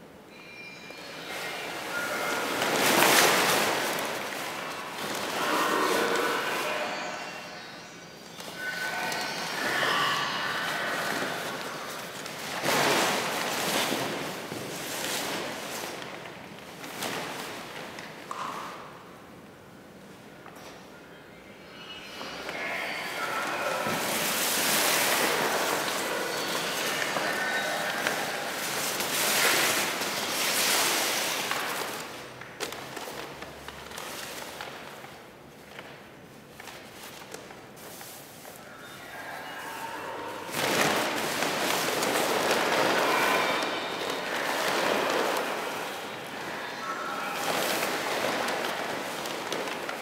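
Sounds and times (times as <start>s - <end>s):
paper costume rustling: 1.0s - 7.3s, 10.4s - 18.3s, 22.4s - 50.0s.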